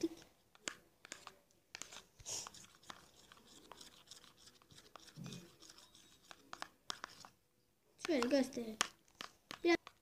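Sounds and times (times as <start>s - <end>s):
plastic spoon stirring thick liquid: 0.0s - 10.0s.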